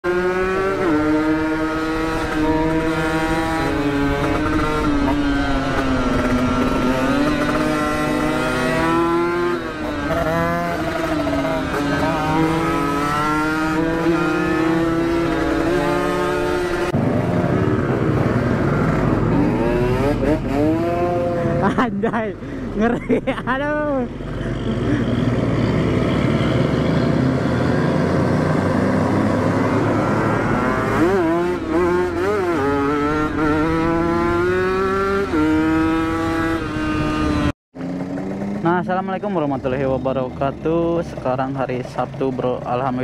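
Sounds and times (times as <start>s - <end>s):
two-stroke motorcycle engine revving: 0.0s - 43.0s.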